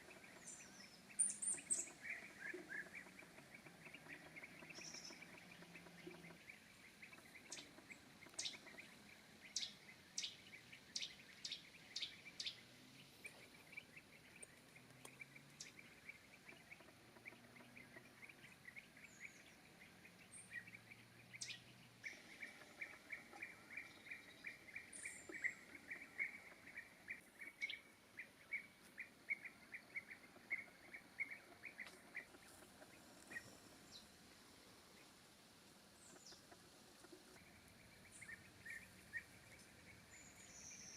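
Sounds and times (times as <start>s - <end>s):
songbird calls: 0.0s - 35.3s, 35.9s - 40.9s.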